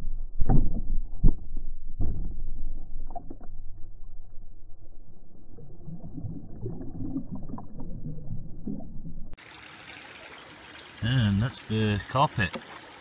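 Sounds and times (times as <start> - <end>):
muffled water sloshing and splashing: 0.4 - 11.0.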